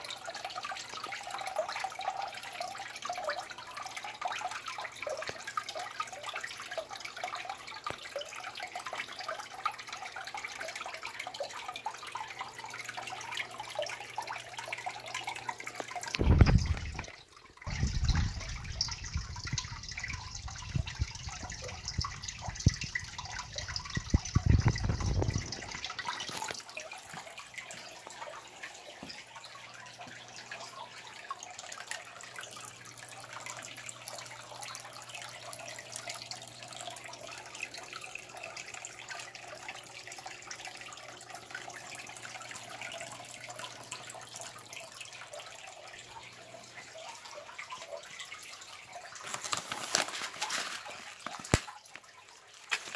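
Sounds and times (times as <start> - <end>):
water trickling and splashing: 0.0 - 52.9.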